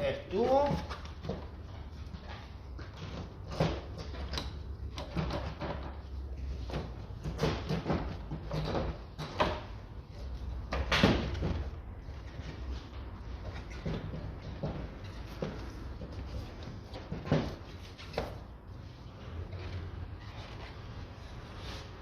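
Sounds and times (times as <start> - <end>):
plastic knocks and scraping: 0.6 - 18.6.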